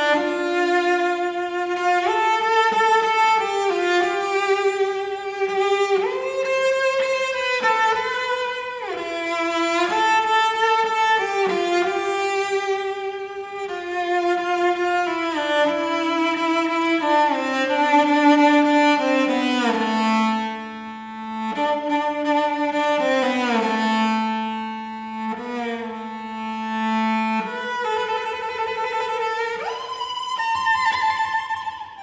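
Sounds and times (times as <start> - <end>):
cello playing slow melody: 0.0 - 32.0.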